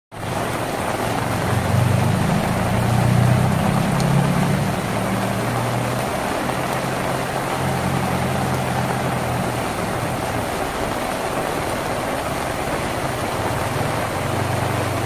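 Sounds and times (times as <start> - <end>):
rain on a tin roof: 0.1 - 15.0
low engine hum: 0.2 - 15.0.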